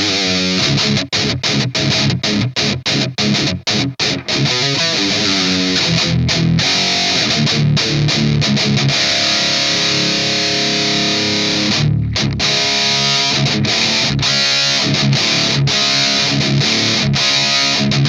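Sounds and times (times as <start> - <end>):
distorted electric guitar riff: 0.0 - 18.0.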